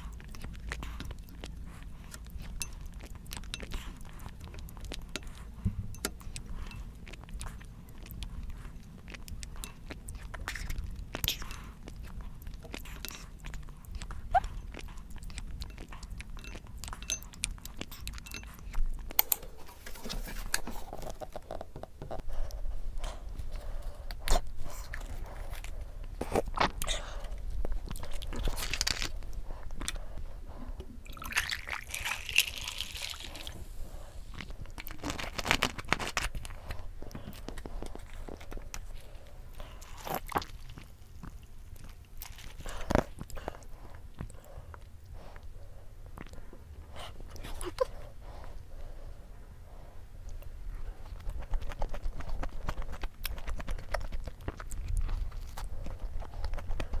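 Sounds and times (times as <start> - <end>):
soft mouth eating sounds: 0.0 - 57.0.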